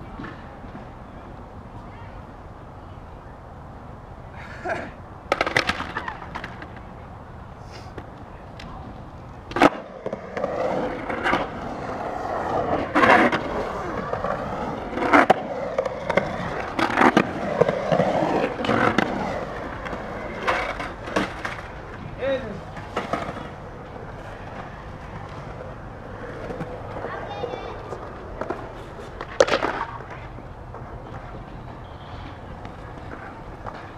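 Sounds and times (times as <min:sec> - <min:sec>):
skateboard wheels rolling on concrete: 0:00.0 - 0:33.9
skateboard clacks: 0:04.7 - 0:07.0, 0:07.9 - 0:33.9.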